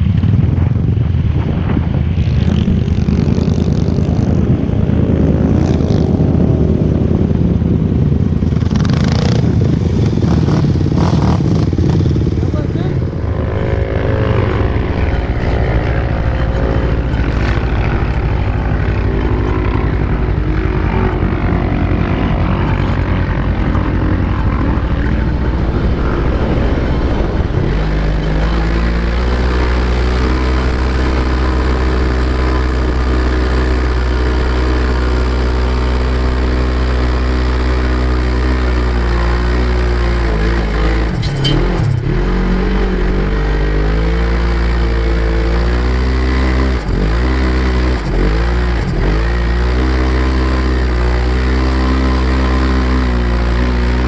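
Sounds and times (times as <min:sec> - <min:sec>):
off-road vehicle engine revving: 0:02.2 - 0:54.0.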